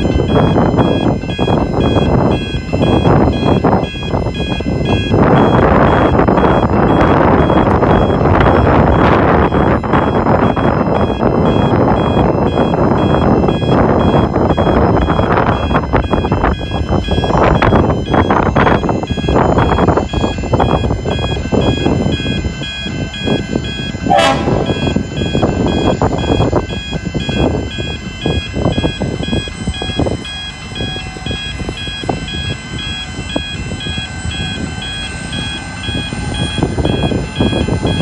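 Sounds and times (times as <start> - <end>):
diesel locomotive rumbling: 0.0 - 38.0
level crossing bells ringing: 0.0 - 38.0.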